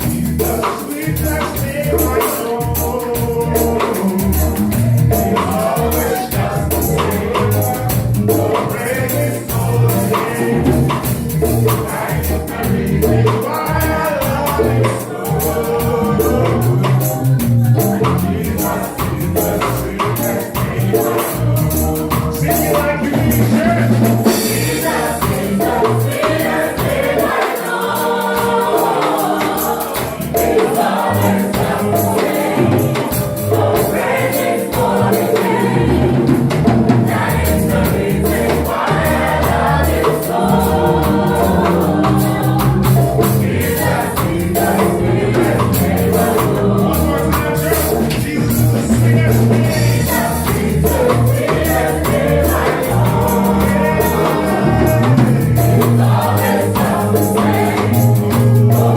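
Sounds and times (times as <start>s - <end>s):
band with bass and drums: 0.0s - 58.9s
choir singing gospel: 0.0s - 58.9s.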